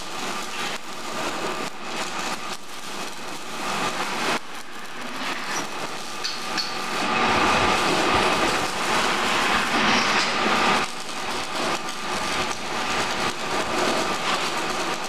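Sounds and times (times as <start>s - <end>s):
arc welding crackling: 0.0s - 15.0s.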